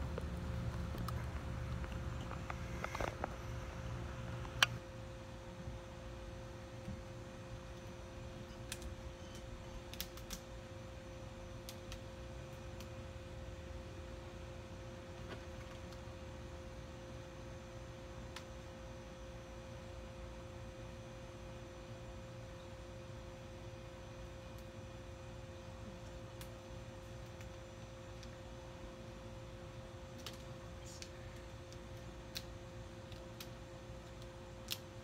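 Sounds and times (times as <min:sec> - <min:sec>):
low two-tone hum: 0:00.0 - 0:35.0.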